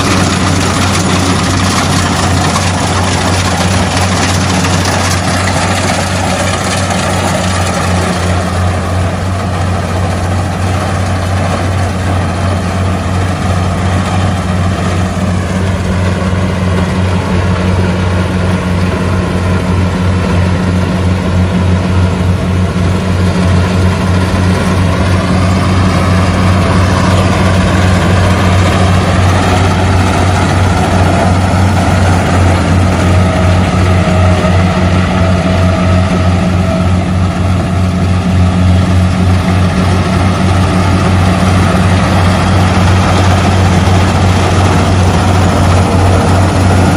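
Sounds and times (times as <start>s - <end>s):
combine harvester running: 0.0s - 46.9s.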